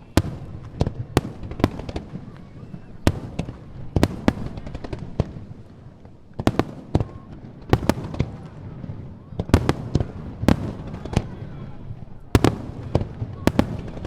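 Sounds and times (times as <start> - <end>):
fireworks bangs with echo: 0.0 - 14.0.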